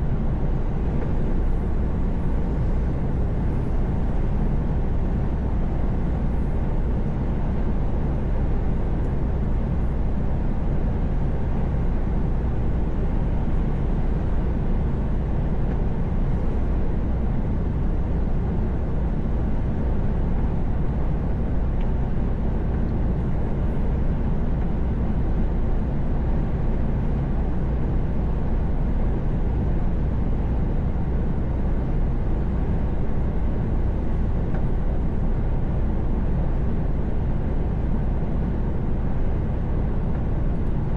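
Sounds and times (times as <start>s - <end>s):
road and tyre noise: 0.0s - 40.9s.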